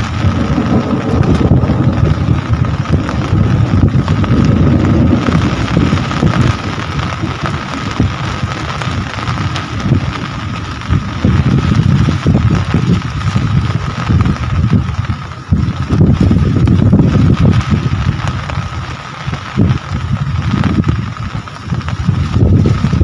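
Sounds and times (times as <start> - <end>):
rain falling: 0.0 - 23.0
wind buffeting microphone: 0.0 - 23.0.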